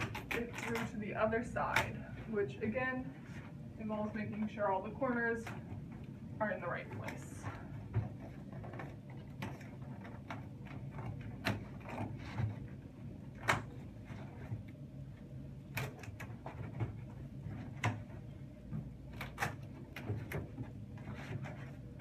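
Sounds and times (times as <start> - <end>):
wooden parts knocking and scraping: 3.2 - 14.8, 15.7 - 22.0.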